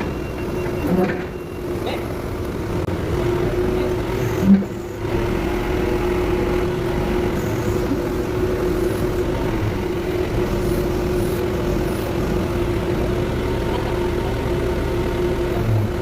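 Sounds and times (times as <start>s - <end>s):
heavy engine idling with whine: 0.0s - 16.0s.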